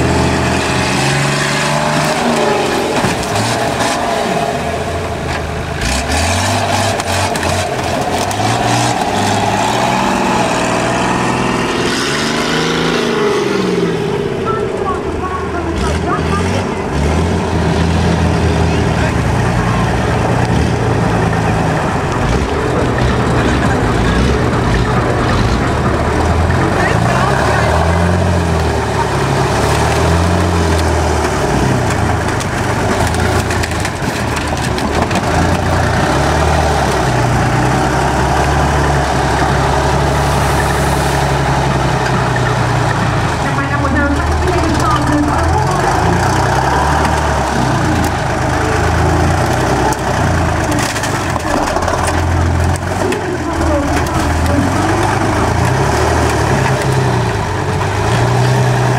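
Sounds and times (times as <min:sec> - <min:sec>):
large vehicle engine running: 0:00.0 - 0:58.9.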